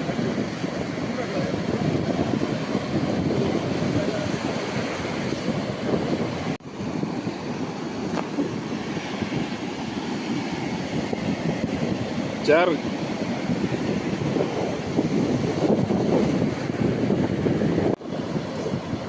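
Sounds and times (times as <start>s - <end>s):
surf washing on shore: 0.0s - 19.0s
wind rumbling on microphone: 0.0s - 19.0s.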